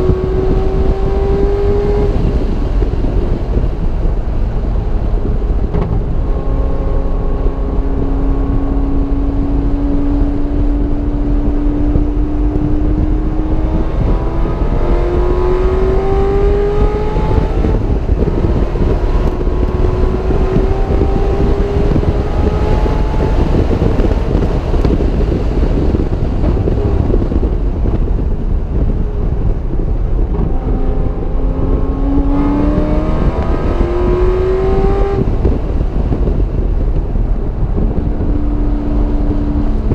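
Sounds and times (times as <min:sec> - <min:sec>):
racing car engine revving: 0:00.0 - 0:27.3, 0:28.7 - 0:39.9
wind and road noise: 0:00.0 - 0:39.9.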